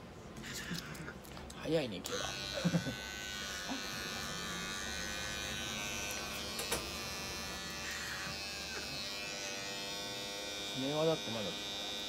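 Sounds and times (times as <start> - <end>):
pet clipper buzzing: 2.0 - 12.0.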